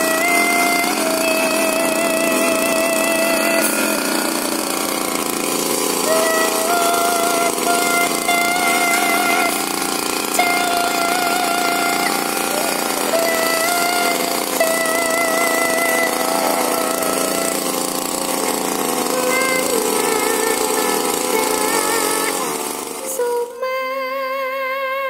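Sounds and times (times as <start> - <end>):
brush cutter engine whining: 0.0 - 25.0.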